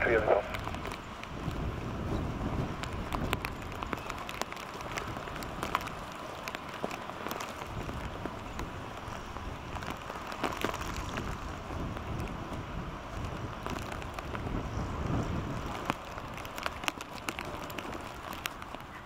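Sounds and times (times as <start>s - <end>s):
low wind rumble: 0.0s - 19.0s
raindrops tapping: 0.0s - 19.0s.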